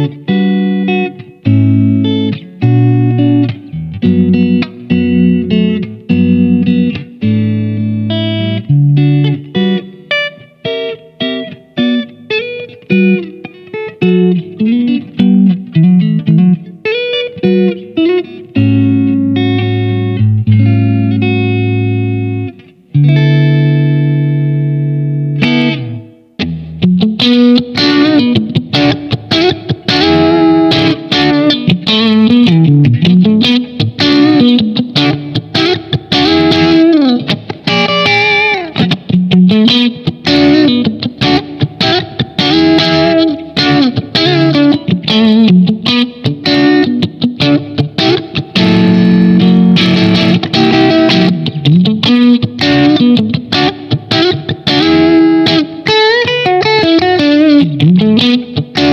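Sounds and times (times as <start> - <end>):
electric guitar lead lines: 0.0 - 58.9.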